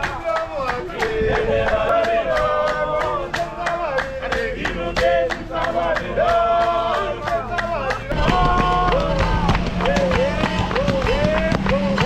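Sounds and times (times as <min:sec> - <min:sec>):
group singing and chanting: 0:00.0 - 0:12.0
rhythmic beat of sharp strikes: 0:00.0 - 0:12.0.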